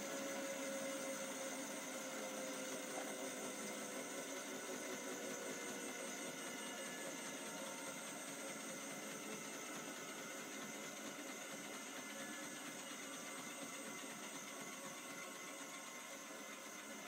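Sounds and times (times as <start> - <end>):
faint motor whine: 0.0 - 17.0
washing machine spinning: 0.1 - 17.0.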